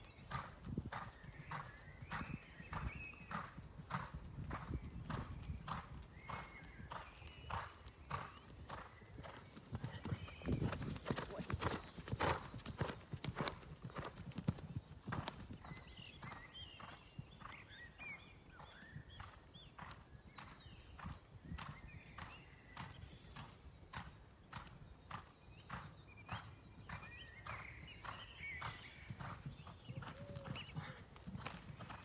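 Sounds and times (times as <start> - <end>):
horse hooves cantering on sand: 0.0 - 32.0.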